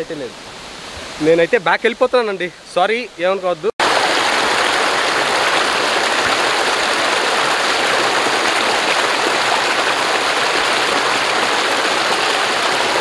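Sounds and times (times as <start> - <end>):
waterfall rushing over boulders: 0.0 - 13.0.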